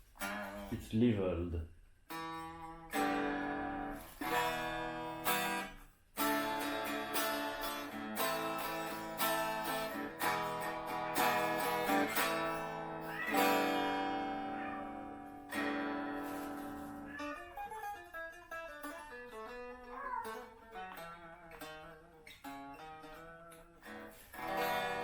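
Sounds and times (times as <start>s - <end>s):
guitar picked notes: 0.2s - 0.8s, 2.1s - 25.0s
acoustic guitar strumming chords: 2.1s - 25.0s.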